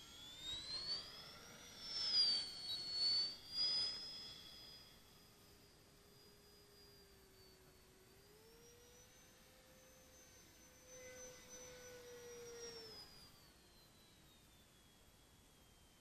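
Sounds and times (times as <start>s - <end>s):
faint electric fan jet whine: 0.0s - 16.0s.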